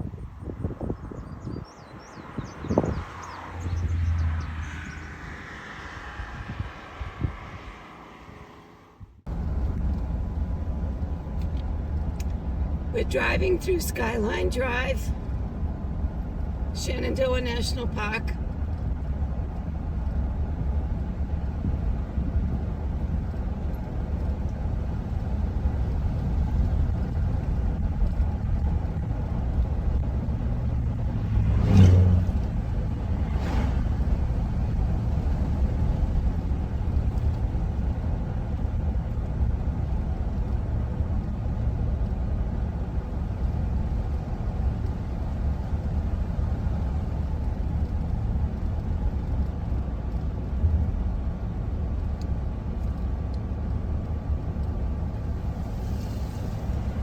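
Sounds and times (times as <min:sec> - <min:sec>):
road and engine rumble inside car: 0:00.0 - 0:57.0.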